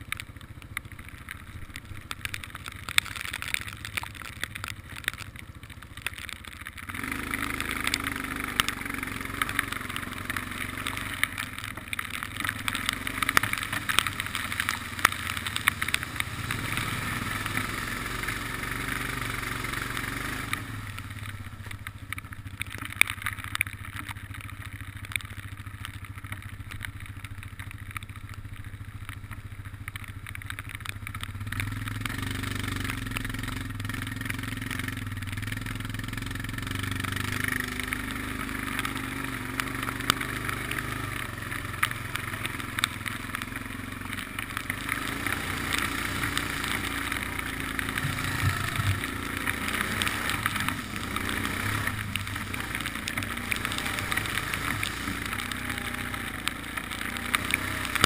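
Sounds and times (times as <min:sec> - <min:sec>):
small clicks and knocks: 0:00.0 - 0:17.7, 0:20.4 - 0:58.0
water splashing: 0:00.0 - 0:29.4, 0:30.1 - 0:58.0
atv engine running: 0:00.0 - 0:58.0.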